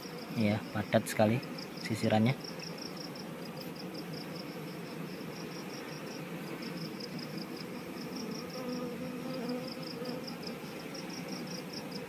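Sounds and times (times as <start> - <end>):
low hum of bee colony: 0.0 - 12.0.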